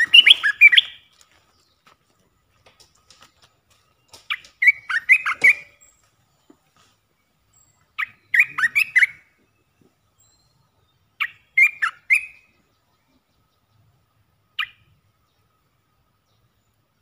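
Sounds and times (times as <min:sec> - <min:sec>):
bulbul singing: 0:00.0 - 0:01.8, 0:03.9 - 0:16.8.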